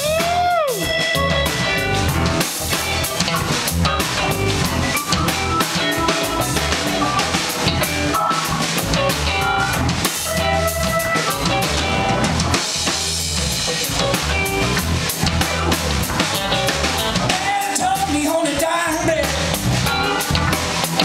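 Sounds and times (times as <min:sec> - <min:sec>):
drum kit beat: 0:00.0 - 0:21.0
live funk band playing: 0:00.0 - 0:21.0.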